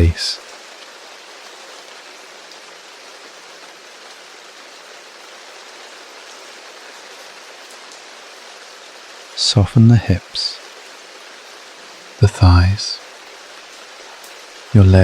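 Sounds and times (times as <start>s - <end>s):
gentle rainfall: 0.0s - 15.0s.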